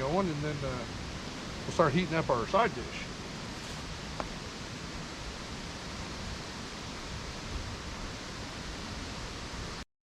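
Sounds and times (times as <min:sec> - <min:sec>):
leaves rustling: 0:00.0 - 0:09.8
wind: 0:00.0 - 0:09.8.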